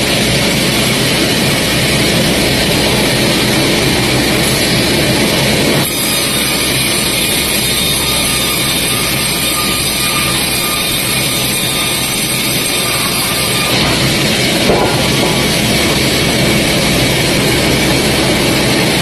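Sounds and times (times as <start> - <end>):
sawmill machinery sawing log: 0.0 - 19.0.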